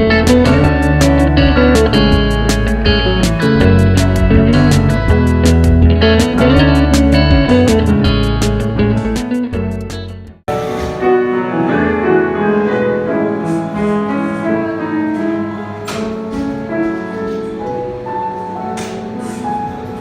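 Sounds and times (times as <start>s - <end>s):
background music: 0.0s - 20.0s
piano-led music: 0.0s - 20.0s.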